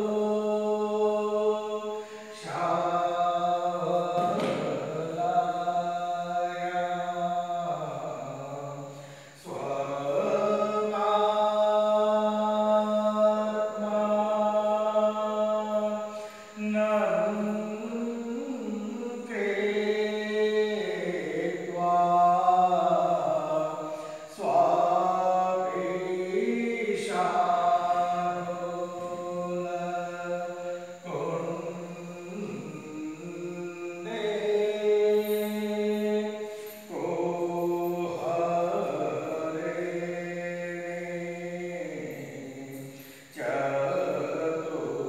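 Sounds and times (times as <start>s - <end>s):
hymn chanted in sung phrases: 0.0s - 45.0s.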